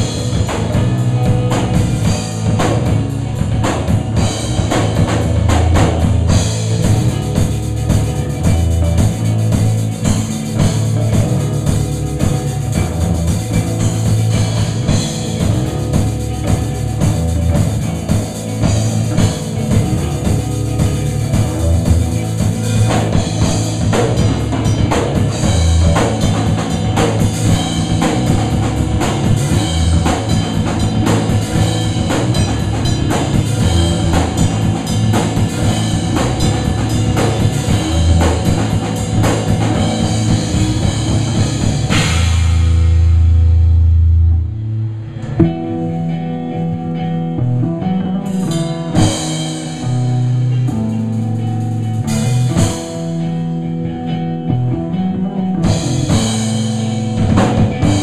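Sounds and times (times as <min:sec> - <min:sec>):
drum kit with cymbal hits: 0:00.0 - 0:46.2, 0:48.0 - 0:54.1, 0:55.4 - 0:58.0
bass guitar: 0:00.0 - 0:58.0
electric guitar: 0:00.0 - 0:58.0.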